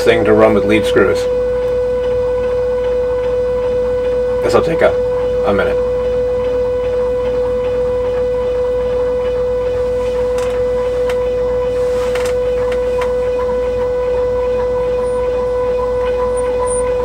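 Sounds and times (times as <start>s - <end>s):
stepper motor whine: 0.0s - 17.0s.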